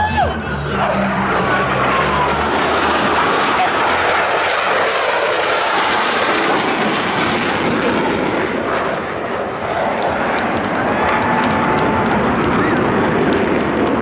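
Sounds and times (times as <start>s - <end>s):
loud jet roar: 0.0s - 14.0s.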